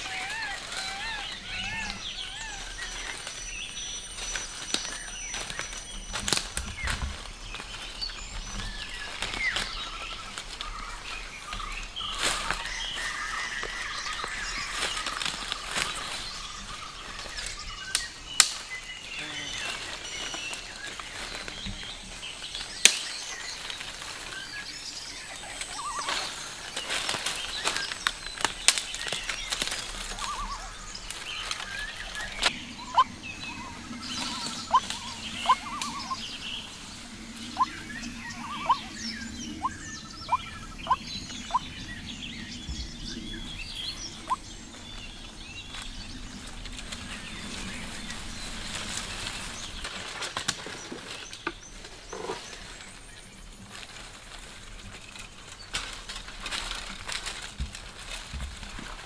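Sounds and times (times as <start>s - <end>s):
twigs cracking: 0.0s - 42.0s, 43.0s - 59.0s
dry branches rustling and snapping: 0.0s - 59.0s.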